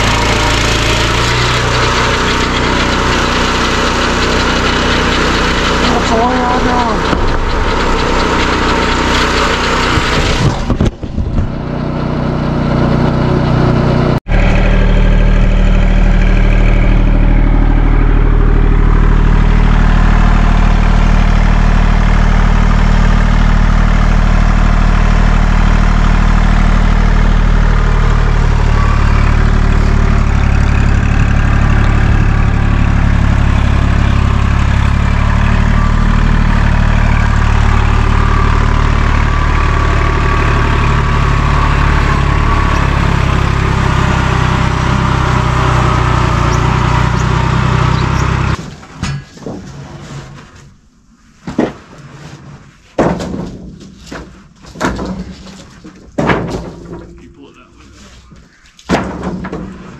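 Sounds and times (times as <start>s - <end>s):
tractor engine running: 0.0s - 49.8s, 53.0s - 59.9s.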